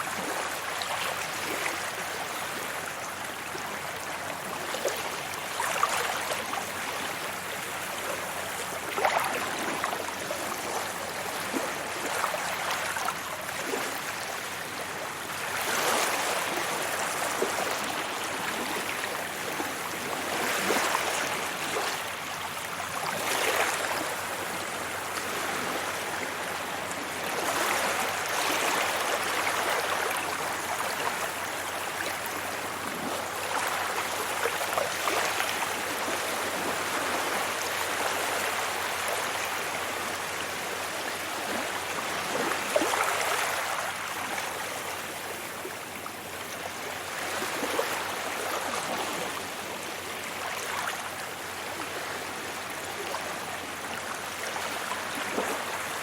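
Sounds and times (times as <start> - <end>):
sea waves washing onto beach: 0.0 - 56.0.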